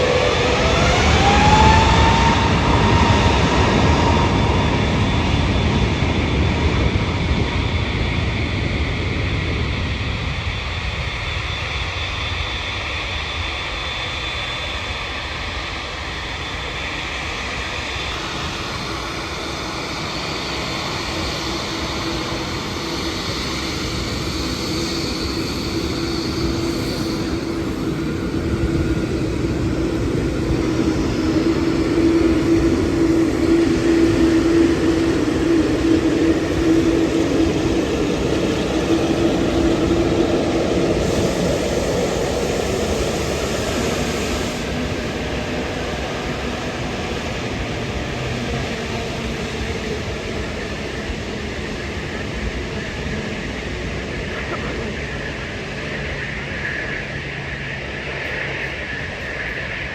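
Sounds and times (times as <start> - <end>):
jet airliner engines running: 0.0 - 59.9.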